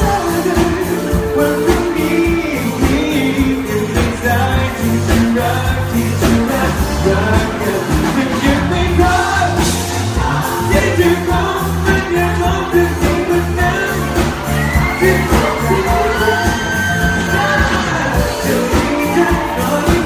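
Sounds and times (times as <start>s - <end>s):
lead vocal singing: 0.0s - 20.0s
live pop band music: 0.0s - 20.0s.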